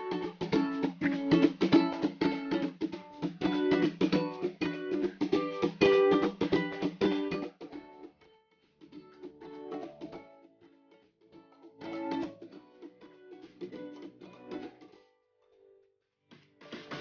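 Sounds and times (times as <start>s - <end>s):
rapidly strummed string instrument: 0.0s - 10.4s, 11.5s - 15.0s, 16.3s - 17.0s.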